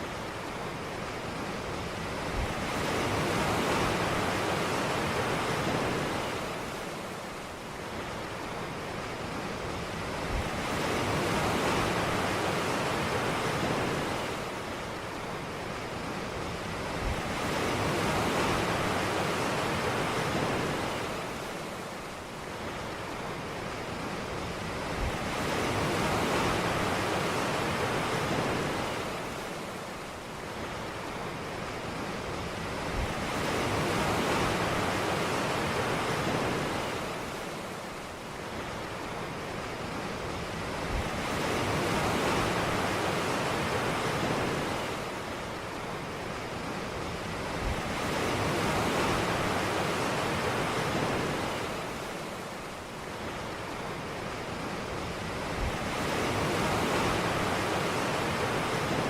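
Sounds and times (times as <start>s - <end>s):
ocean waves washing up beach: 0.0s - 59.0s.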